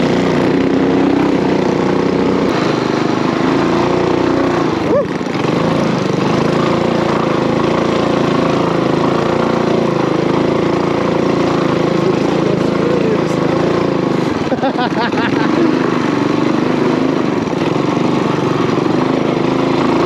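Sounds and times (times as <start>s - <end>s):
mini bike engine running: 0.0s - 20.0s.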